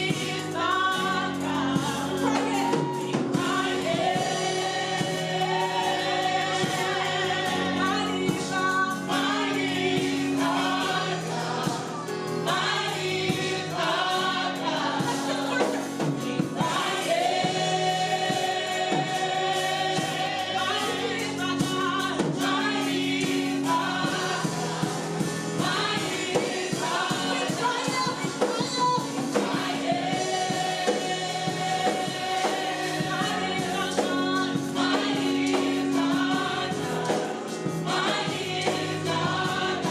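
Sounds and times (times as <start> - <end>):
choir singing gospel music: 0.0 - 39.9.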